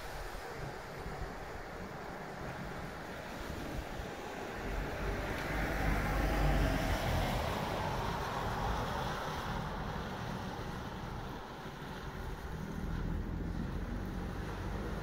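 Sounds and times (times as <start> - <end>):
tyres hissing through water: 0.0 - 15.0.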